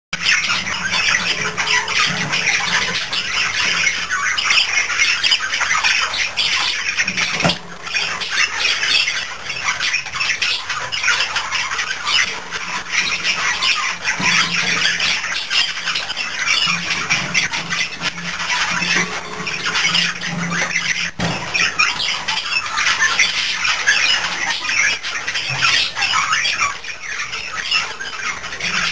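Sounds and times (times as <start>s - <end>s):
budgerigars chattering and squawking: 0.2s - 28.9s.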